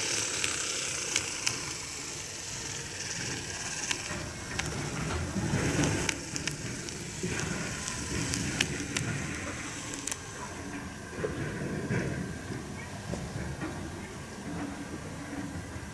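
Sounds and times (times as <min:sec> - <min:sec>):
model train rumbling: 0:00.0 - 0:15.9
wheels clicking on rails: 0:00.0 - 0:15.9.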